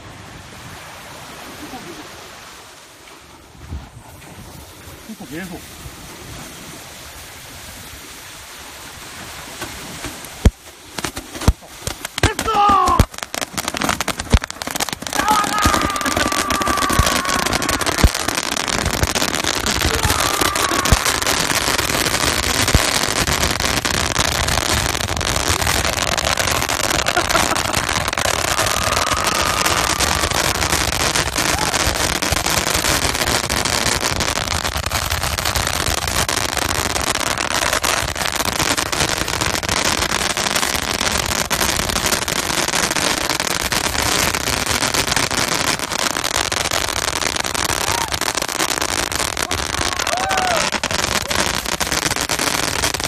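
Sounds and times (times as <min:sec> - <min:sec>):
fireworks crackling and popping: 0:04.5 - 0:53.0.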